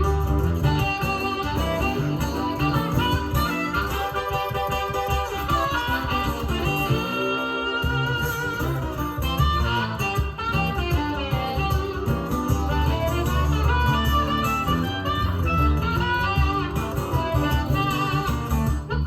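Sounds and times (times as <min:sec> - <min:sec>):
guitar and strings music: 0:00.0 - 0:19.0.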